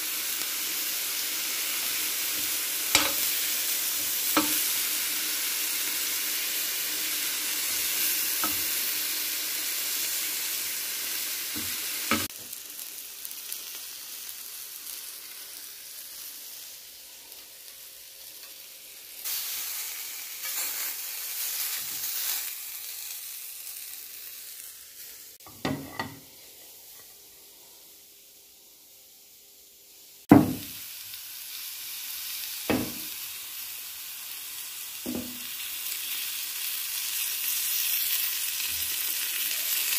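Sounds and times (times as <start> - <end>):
chicken sizzling in grill pan: 0.0 - 39.9.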